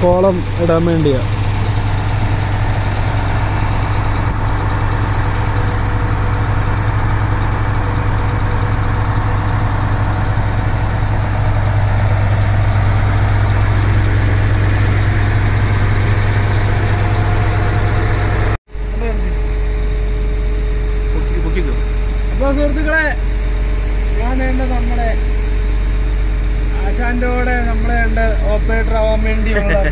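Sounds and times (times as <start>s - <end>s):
diesel engine idling: 0.0s - 29.9s.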